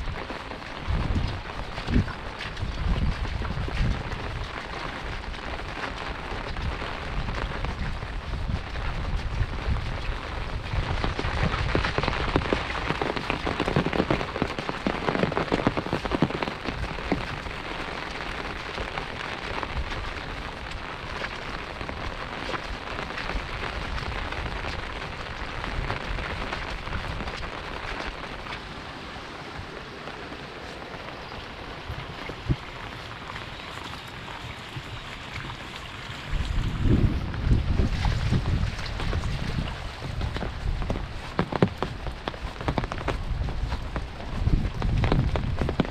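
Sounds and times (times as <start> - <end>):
heavy rain pattering: 0.0 - 45.9.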